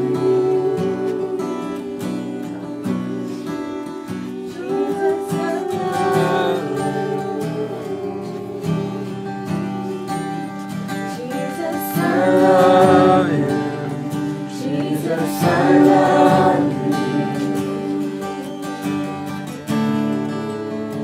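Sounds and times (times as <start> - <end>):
acoustic guitar strumming: 0.0 - 21.0
people singing: 0.0 - 21.0.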